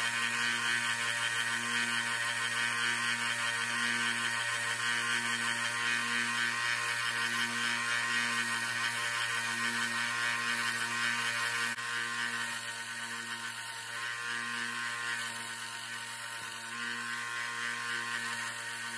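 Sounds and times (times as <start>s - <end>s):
belt sander whining: 0.0s - 18.9s.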